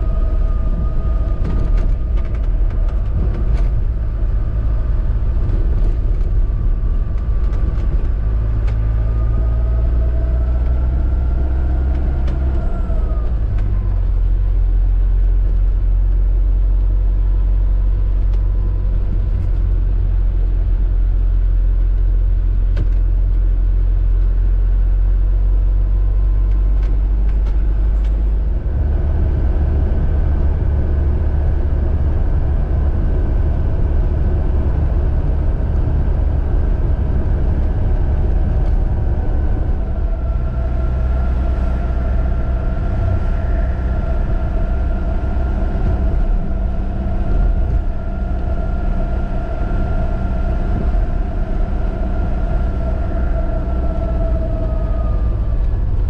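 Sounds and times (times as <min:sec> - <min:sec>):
engine and road rumble in cab: 0:00.0 - 0:56.0.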